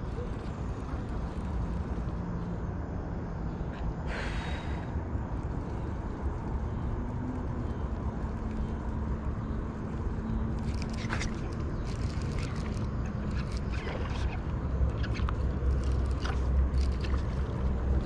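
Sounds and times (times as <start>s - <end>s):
wind rumble: 0.0s - 18.0s.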